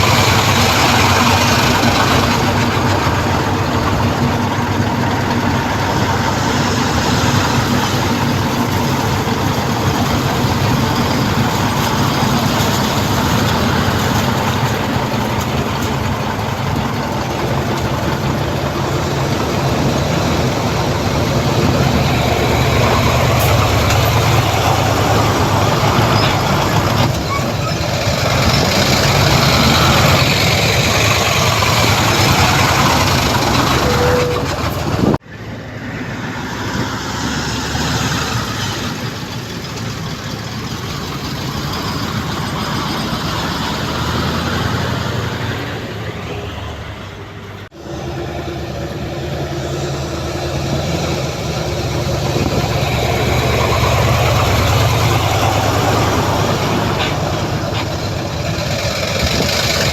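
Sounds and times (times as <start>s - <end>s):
heavy machinery diesel engine rumbling: 0.0s - 59.9s.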